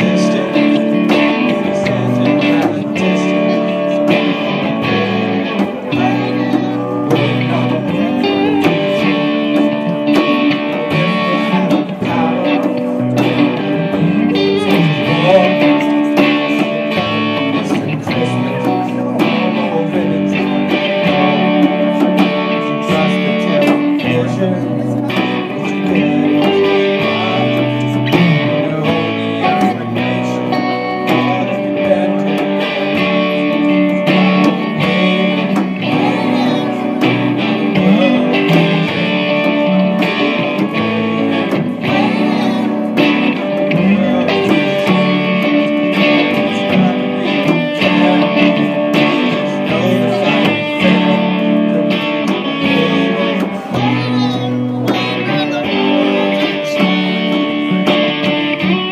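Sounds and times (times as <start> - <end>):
plucked guitar playing: 0.0 - 58.9.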